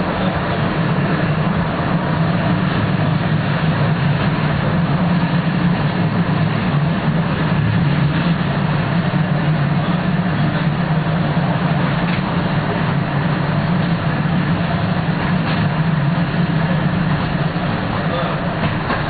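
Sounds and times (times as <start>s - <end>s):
low hum: 0.0s - 19.0s
tram running on track: 0.0s - 19.0s.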